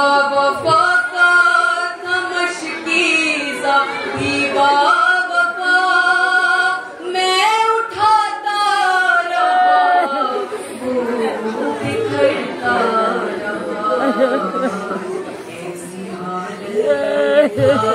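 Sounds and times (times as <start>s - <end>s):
woman singing unaccompanied: 0.0s - 17.9s.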